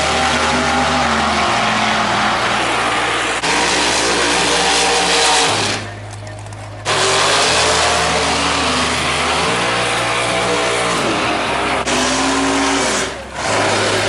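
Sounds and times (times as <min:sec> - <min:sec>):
racing car engines at high revs: 0:00.0 - 0:06.2, 0:06.8 - 0:14.0.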